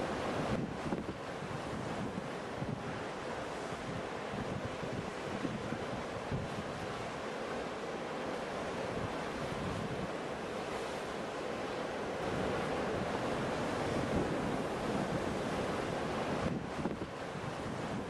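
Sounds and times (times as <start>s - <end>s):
ocean waves washing onto shore: 0.0s - 18.0s
wind: 0.0s - 18.0s.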